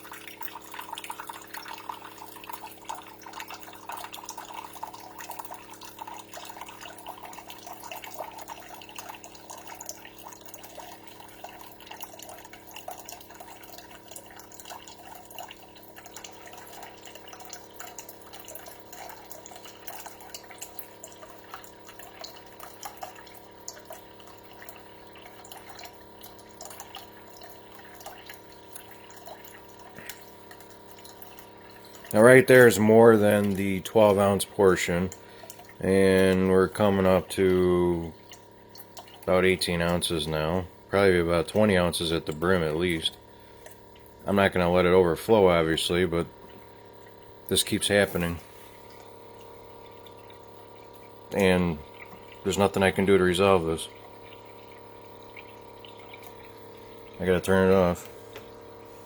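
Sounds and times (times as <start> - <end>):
coffee maker humming: 0.0 - 59.0
water pouring into a cup: 0.0 - 59.0.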